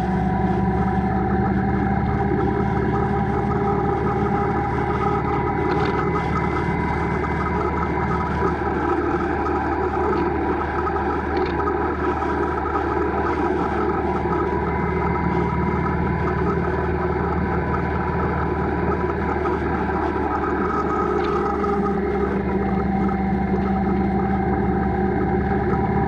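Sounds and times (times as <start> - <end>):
ride in motion droning: 0.0 - 26.0.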